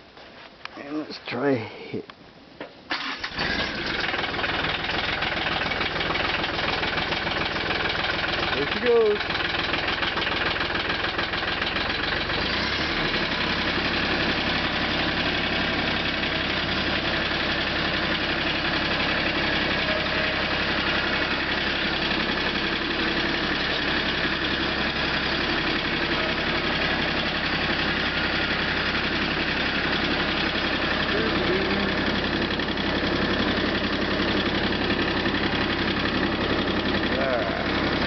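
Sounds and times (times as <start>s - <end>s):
tractor diesel engine idling: 2.9s - 38.0s.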